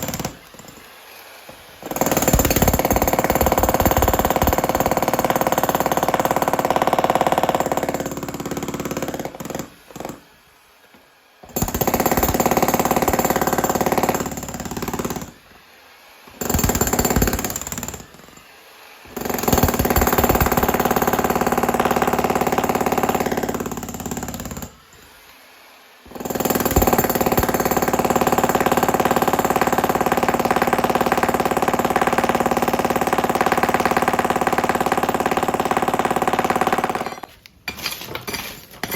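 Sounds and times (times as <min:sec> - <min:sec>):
demolition hammer breaking concrete: 0:00.0 - 0:00.8, 0:01.8 - 0:10.2, 0:11.5 - 0:15.4, 0:16.4 - 0:18.2, 0:19.1 - 0:24.7, 0:26.1 - 0:38.9.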